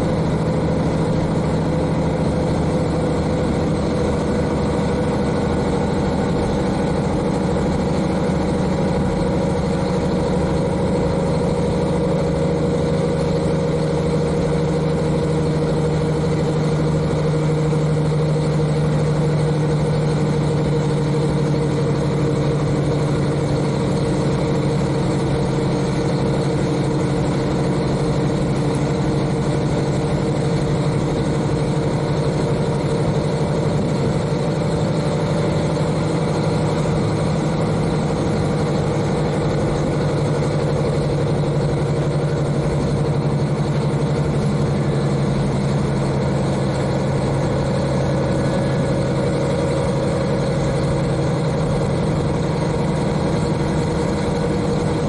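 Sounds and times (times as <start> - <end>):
diesel engine running: 0.0 - 55.0
railcar running noise: 0.0 - 55.0.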